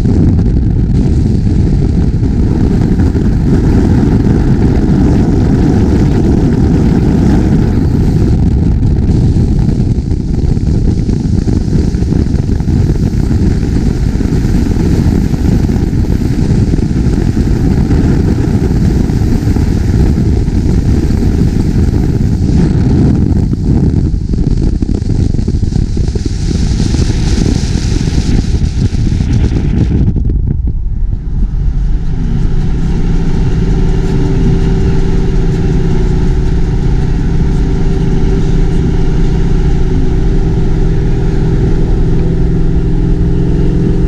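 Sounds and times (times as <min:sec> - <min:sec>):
car engine and exhaust: 0:00.0 - 0:44.0.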